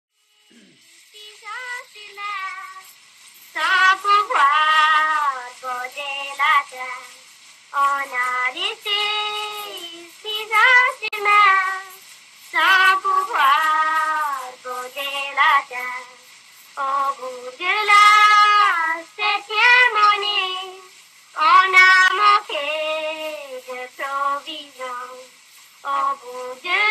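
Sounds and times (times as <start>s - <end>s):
high voice singing unaccompanied: 0.5s - 26.9s.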